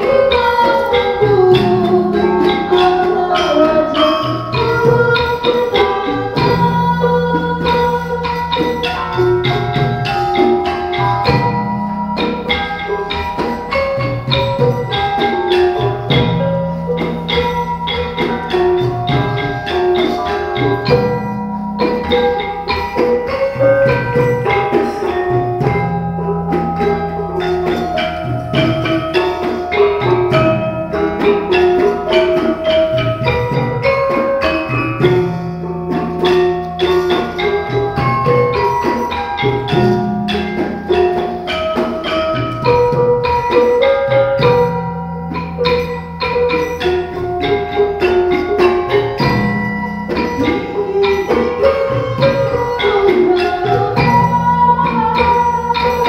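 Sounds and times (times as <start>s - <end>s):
gamelan ensemble playing: 0.0s - 56.0s.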